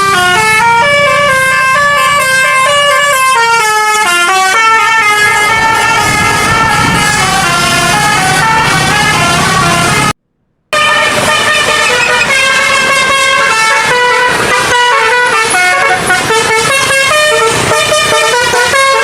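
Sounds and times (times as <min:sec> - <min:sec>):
bus engine running: 0:00.0 - 0:19.0
multi-tone bus horn melody: 0:00.0 - 0:19.0.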